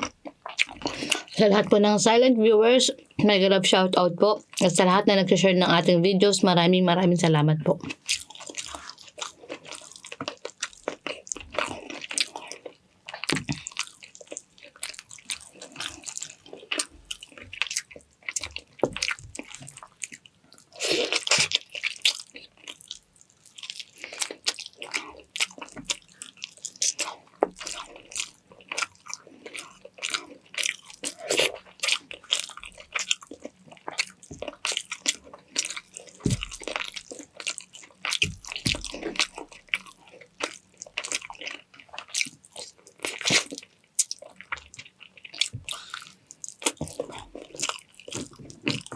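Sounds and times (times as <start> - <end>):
person chewing and crunching: 0.0 - 1.6, 7.7 - 48.9.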